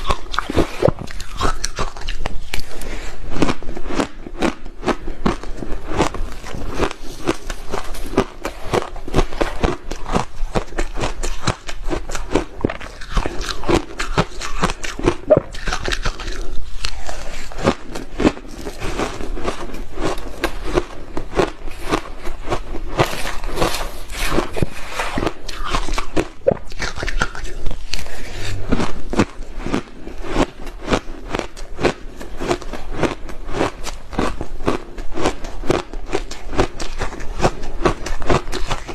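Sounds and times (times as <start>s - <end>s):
person chewing ice: 0.0s - 38.9s.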